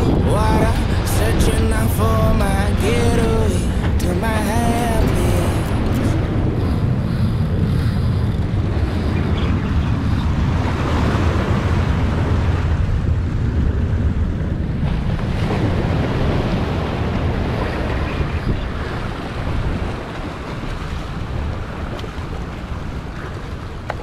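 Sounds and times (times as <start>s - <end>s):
surf washing against rocks: 0.0s - 24.0s
wind buffeting microphone: 0.0s - 24.0s.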